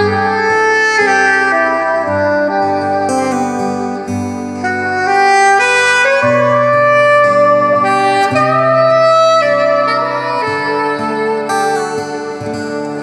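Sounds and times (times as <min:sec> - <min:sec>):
instrumental music through loudspeakers: 0:00.0 - 0:13.0.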